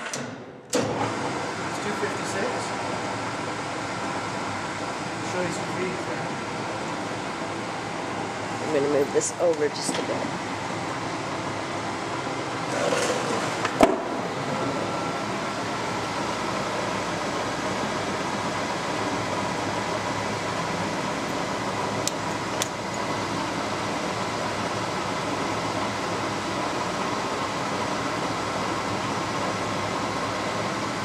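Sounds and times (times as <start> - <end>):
lathe running: 0.8 - 31.0.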